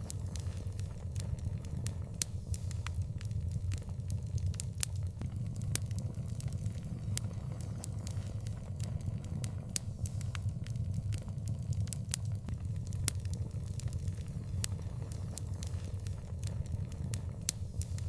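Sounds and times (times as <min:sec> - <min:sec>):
fire low rumble: 0:02.9 - 0:18.0
wood fire pops and crackles: 0:03.3 - 0:18.0.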